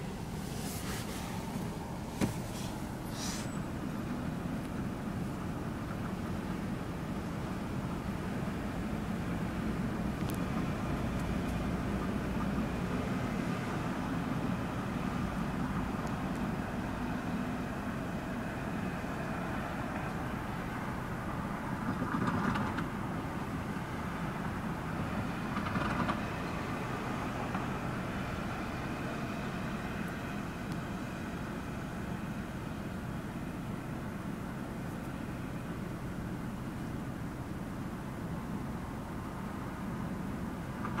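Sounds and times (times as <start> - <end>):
diesel locomotive engine droning: 0.0 - 41.0.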